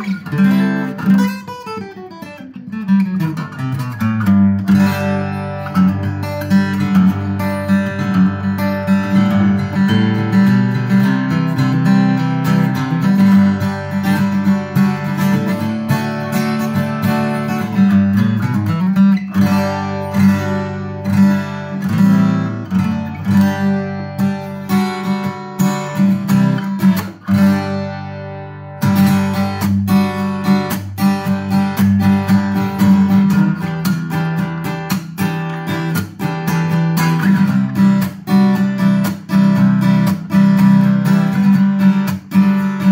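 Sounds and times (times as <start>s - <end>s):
fingerpicked acoustic guitar: 0.0s - 42.9s.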